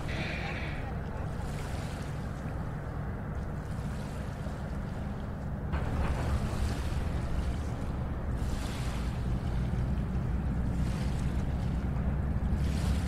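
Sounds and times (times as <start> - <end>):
distant freight train rumbling: 0.0 - 13.0.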